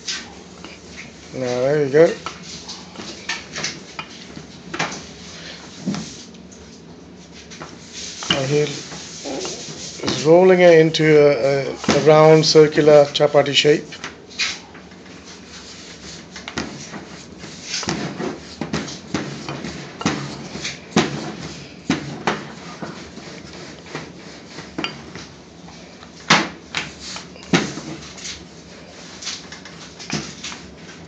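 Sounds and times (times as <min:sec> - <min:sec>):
rolling pin rubbing dough: 0:00.0 - 0:31.0.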